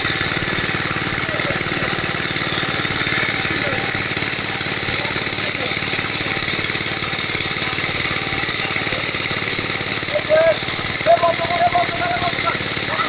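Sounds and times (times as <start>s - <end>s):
engine-driven water pump running: 0.0s - 13.0s.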